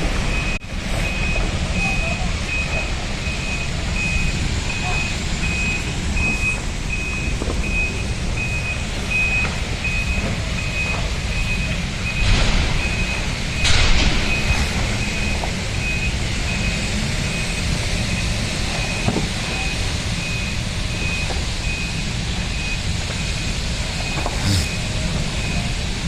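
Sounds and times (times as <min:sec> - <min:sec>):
low engine rumble: 0:00.0 - 0:26.0
reversing alarm beeping: 0:00.2 - 0:26.0.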